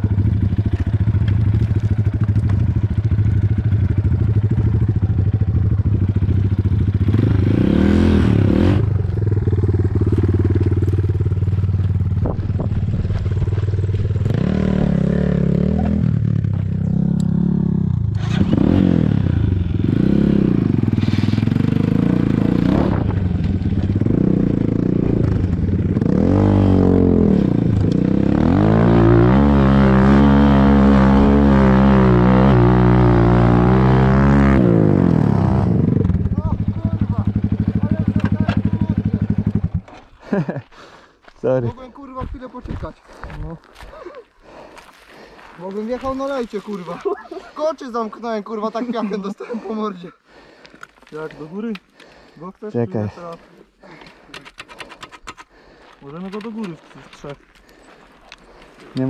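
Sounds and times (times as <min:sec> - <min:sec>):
motorcycle engine idling and revving: 0:00.0 - 0:40.7, 0:51.0 - 0:59.0.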